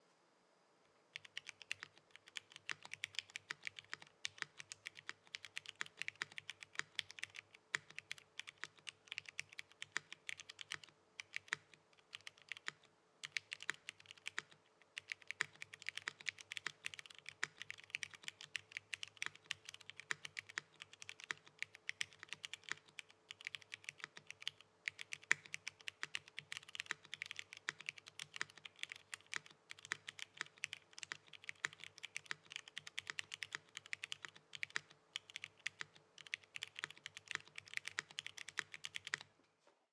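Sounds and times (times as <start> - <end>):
mechanical keyboard typing: 1.2 - 39.3.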